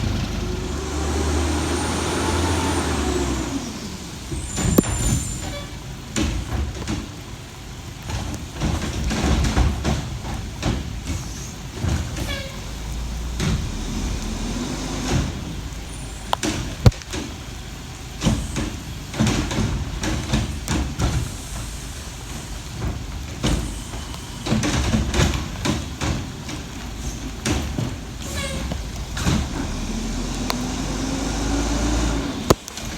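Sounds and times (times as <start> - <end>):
garbage truck engine running: 0.0 - 32.9
pouring rain hiss: 0.0 - 32.9.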